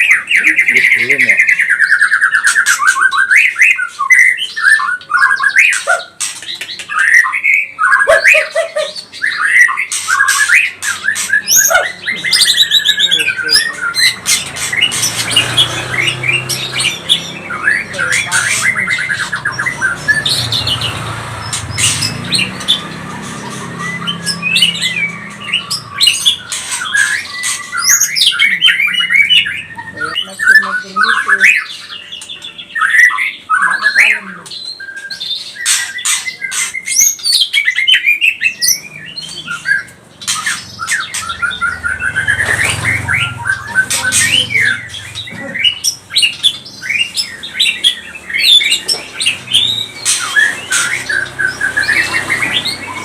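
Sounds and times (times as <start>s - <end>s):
songbird whistling and rattling: 0.0s - 33.8s, 34.6s - 53.0s.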